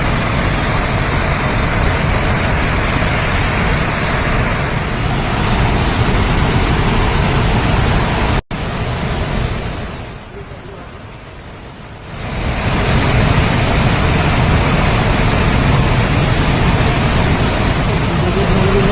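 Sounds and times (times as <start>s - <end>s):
floodwater rushing through dam gates: 0.0s - 18.9s.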